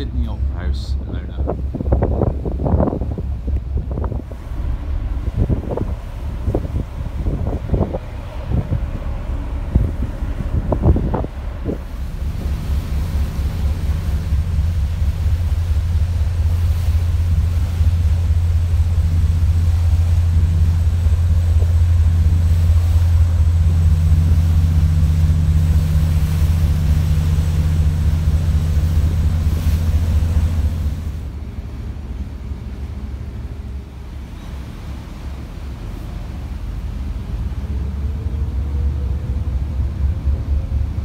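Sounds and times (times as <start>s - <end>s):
ferry engines droning: 0.0s - 41.0s
rush of wind and water: 0.0s - 41.0s.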